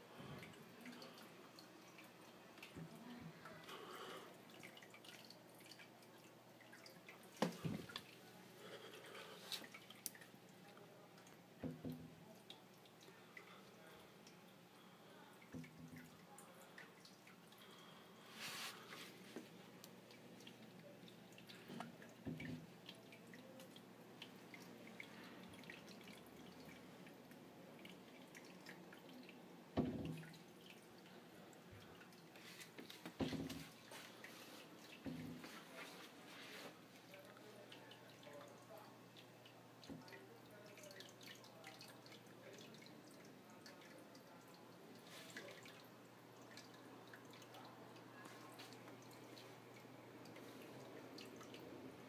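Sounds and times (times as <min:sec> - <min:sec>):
water dripping and trickling: 0:00.0 - 0:52.0.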